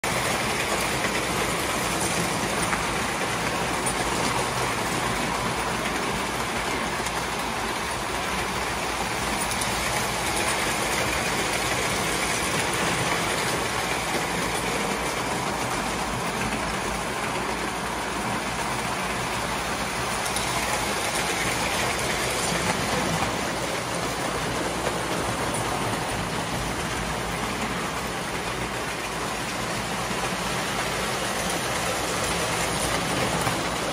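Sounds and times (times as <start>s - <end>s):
train running: 0.0s - 33.9s.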